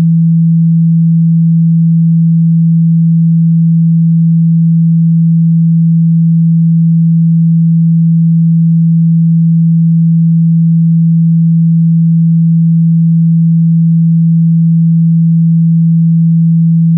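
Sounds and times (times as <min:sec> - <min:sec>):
low sine tone: 0:00.0 - 0:16.9.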